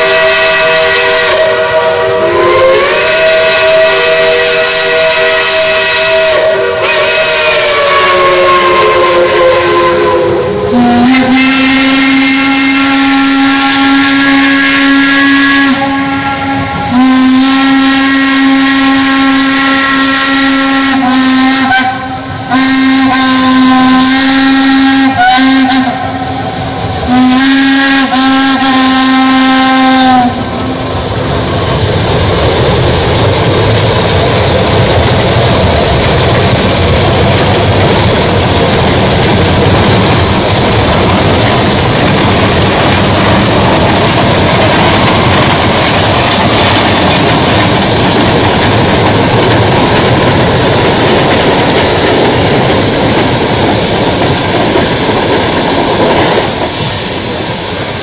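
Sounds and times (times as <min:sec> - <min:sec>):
steam whistle blast: 0:00.0 - 0:31.7, 0:33.8 - 0:50.1
steam locomotive exhaust: 0:00.0 - 0:58.0.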